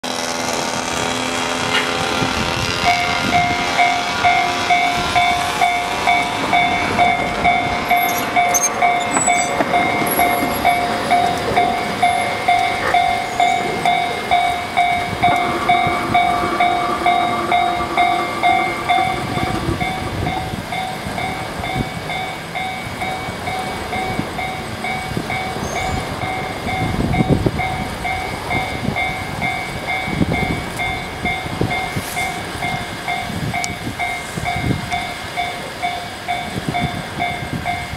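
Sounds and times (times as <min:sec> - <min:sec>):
freight train rumbling: 0:00.0 - 0:37.9
wheels clattering over rail joints: 0:00.3 - 0:37.9
level crossing bell ringing: 0:02.9 - 0:33.3.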